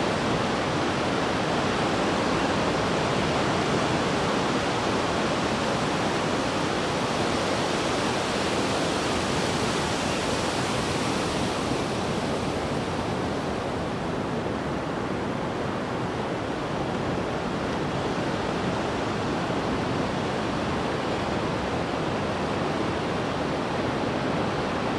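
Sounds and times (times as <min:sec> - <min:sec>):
ocean surf breaking on beach: 0:00.0 - 0:24.9.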